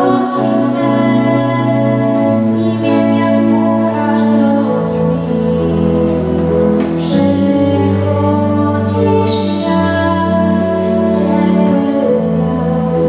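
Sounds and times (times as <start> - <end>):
organ chords: 0.0 - 13.0
woman singing: 0.0 - 13.0.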